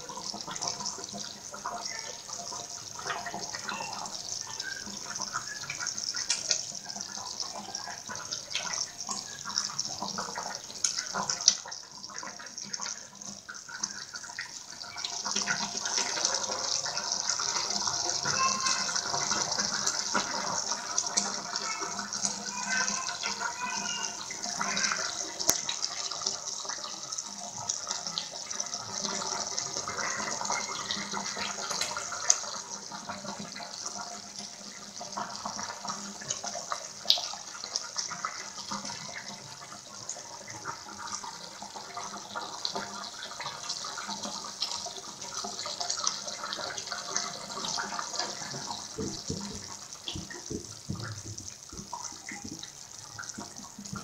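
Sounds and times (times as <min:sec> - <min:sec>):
curry bubbling in a pot: 0:00.0 - 0:54.0.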